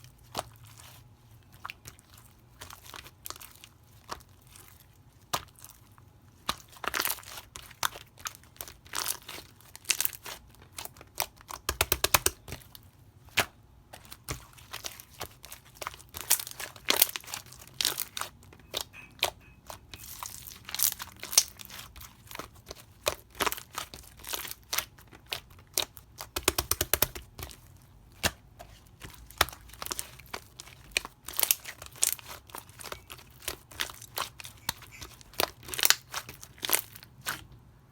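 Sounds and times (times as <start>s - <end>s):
slime crackling and popping: 6.4s - 37.4s.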